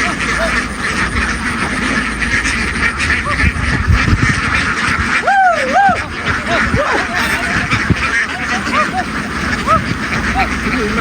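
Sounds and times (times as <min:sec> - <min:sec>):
drawn-out duck call: 0:00.0 - 0:11.0
ducks quacking: 0:00.0 - 0:11.0.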